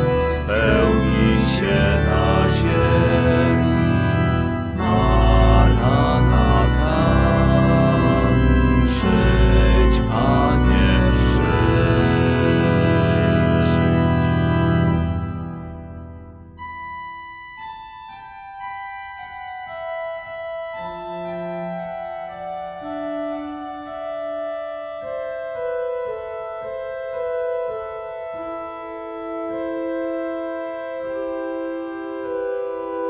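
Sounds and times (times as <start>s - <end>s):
pipe organ chords: 0.0s - 33.0s.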